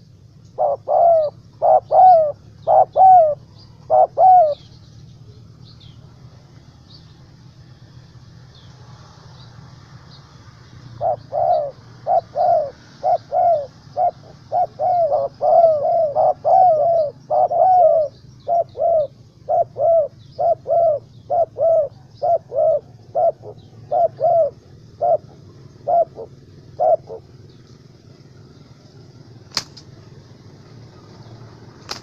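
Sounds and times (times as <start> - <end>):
doves cooing: 0.0 - 7.9, 10.8 - 32.0
small birds chirping: 0.0 - 32.0.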